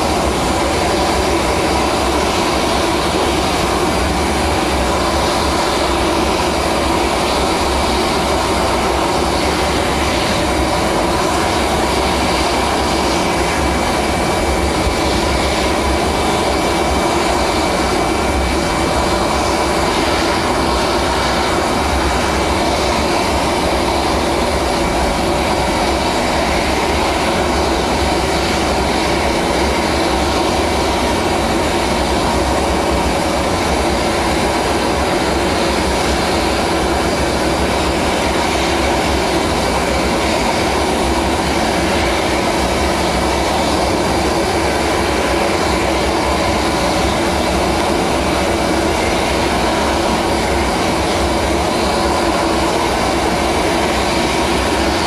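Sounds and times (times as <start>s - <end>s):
aircraft engine running: 0.0s - 55.0s.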